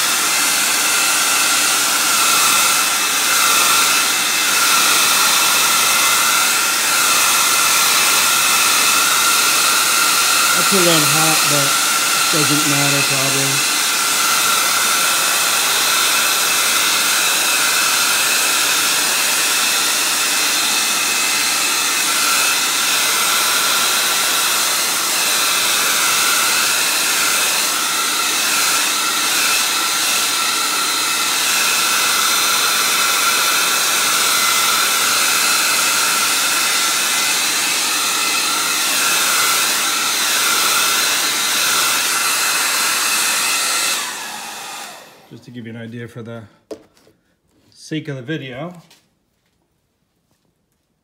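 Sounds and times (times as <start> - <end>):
hair dryer blowing: 0.0 - 45.5, 46.7 - 47.1.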